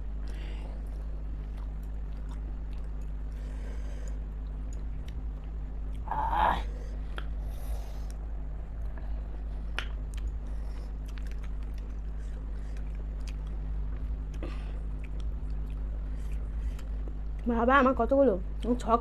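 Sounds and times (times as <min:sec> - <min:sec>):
low background hum: 0:00.0 - 0:19.0
person chewing food: 0:00.1 - 0:06.1, 0:06.9 - 0:17.5.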